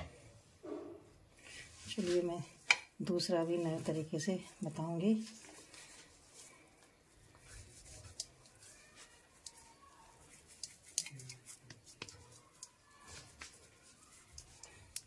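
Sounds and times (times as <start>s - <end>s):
hands rolling soft mixture: 0.2s - 15.0s.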